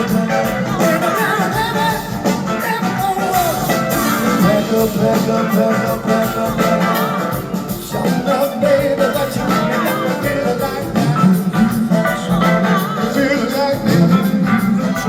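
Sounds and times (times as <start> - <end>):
blues-rock band playing: 0.0 - 15.0
sliding lead guitar line: 0.0 - 15.0.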